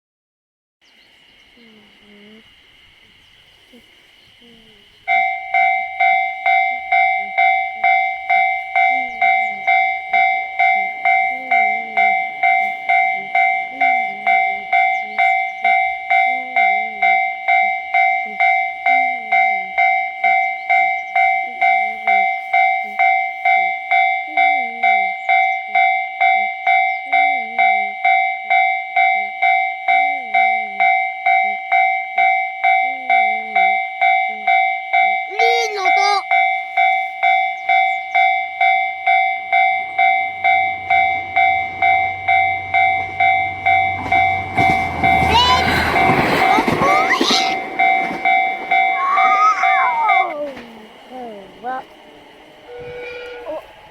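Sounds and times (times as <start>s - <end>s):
level crossing alarm bell ringing: 5.0s - 53.9s.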